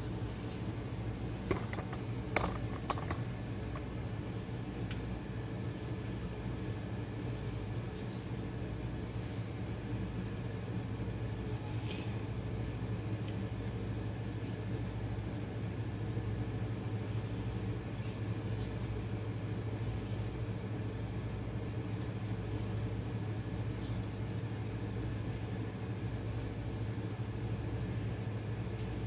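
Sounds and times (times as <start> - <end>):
appliance hum: 0.0 - 29.0.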